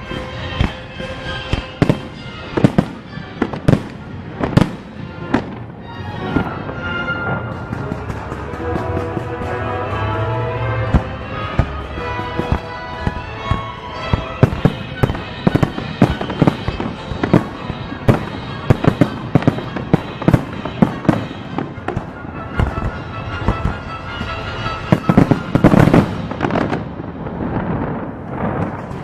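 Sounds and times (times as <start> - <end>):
fireworks bangs: 0.0 - 29.0
fireworks crackle: 0.0 - 29.0.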